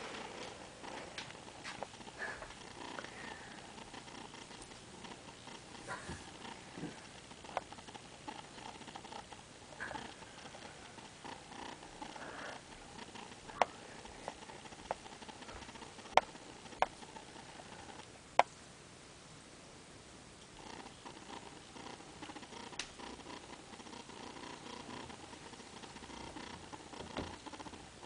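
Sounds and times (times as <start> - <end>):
faint snoring: 2.0 - 18.0, 20.6 - 28.0.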